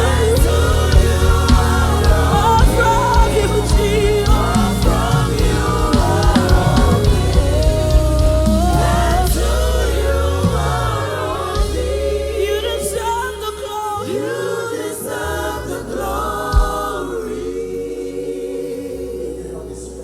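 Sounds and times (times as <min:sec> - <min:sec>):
gospel voices singing: 0:00.0 - 0:20.0
sustained keyboard and bass: 0:00.0 - 0:20.0.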